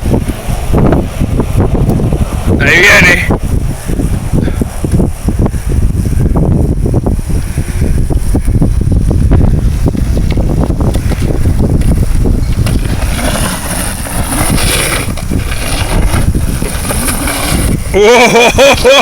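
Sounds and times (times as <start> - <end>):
wind buffeting microphone: 0.0 - 19.0
dirt bike engine running: 3.4 - 19.0.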